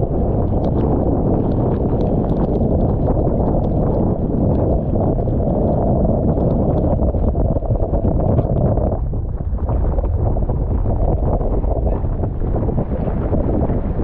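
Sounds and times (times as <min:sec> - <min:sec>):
choppy water splashing: 0:00.0 - 0:14.0
storm wind on microphone: 0:00.0 - 0:14.0.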